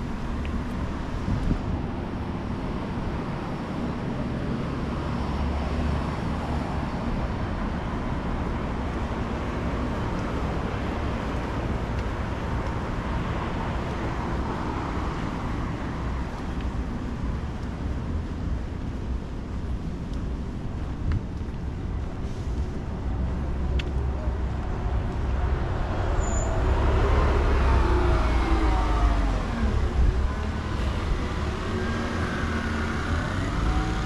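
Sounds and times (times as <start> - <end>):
street traffic rumble: 0.0 - 34.0.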